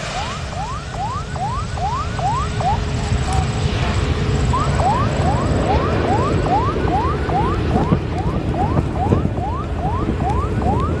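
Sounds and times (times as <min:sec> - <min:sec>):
electronic siren yelping: 0:00.0 - 0:03.0, 0:04.4 - 0:11.0
low rumble: 0:00.0 - 0:11.0.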